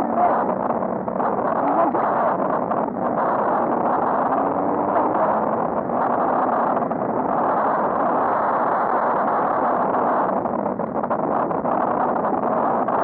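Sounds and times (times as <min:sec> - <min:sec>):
road traffic noise: 0:00.0 - 0:13.0
wind rushing on microphone: 0:00.0 - 0:13.0.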